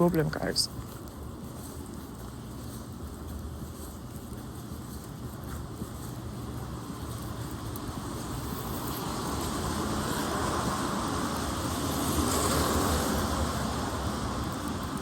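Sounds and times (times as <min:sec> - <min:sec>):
tyres hissing on wet street: 0:00.0 - 0:15.0.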